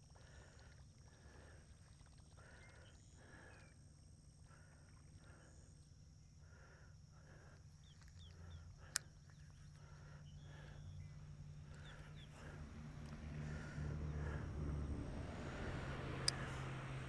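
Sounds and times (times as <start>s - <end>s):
faint chirps: 0.0s - 17.0s.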